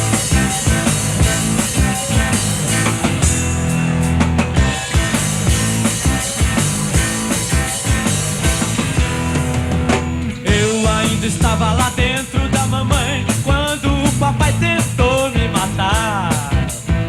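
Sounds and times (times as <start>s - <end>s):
lead guitar melody with bending notes: 0.0s - 17.0s
live rock band playing: 0.0s - 17.0s.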